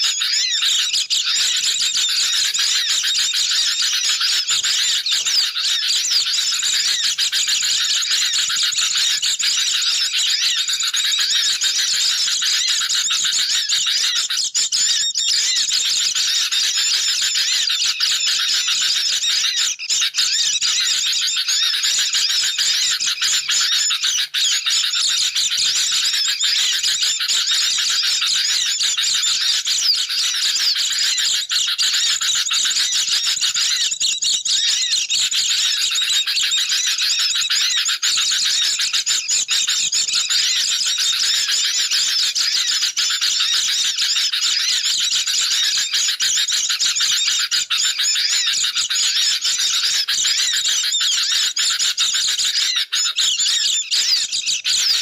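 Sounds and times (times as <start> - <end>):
high rapid bird twittering: 0.0 - 55.0.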